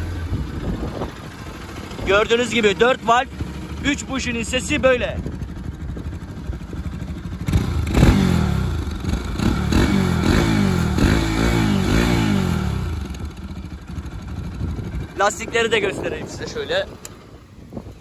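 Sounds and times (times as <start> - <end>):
motorcycle engine revving: 0.0 - 17.8.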